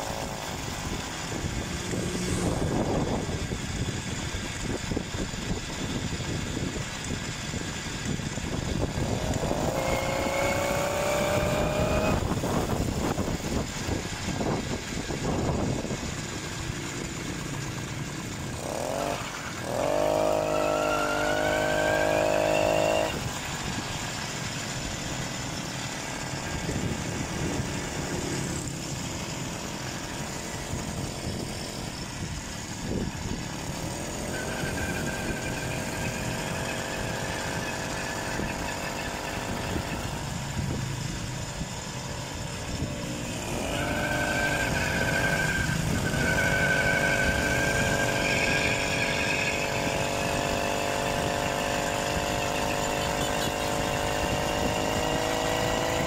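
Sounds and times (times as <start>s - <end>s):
motorized bicycle engine running: 0.0s - 56.0s
wind and road noise: 0.0s - 56.0s.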